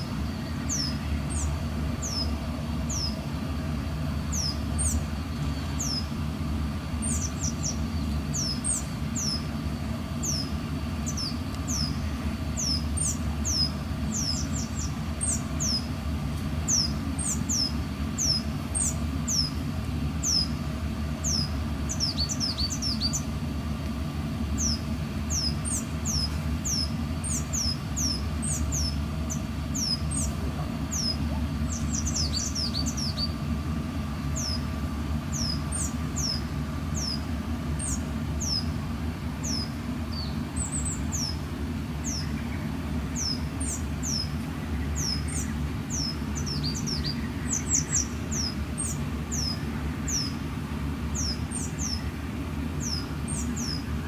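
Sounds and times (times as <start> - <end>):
small bird chirping: 0.0 - 23.5, 24.4 - 54.0
low steady rumble: 0.0 - 54.0.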